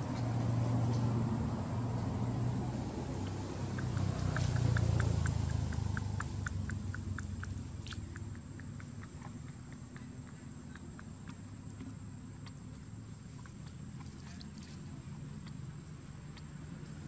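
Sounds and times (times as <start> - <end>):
baby monkey suckling clicks: 3.1 - 17.0.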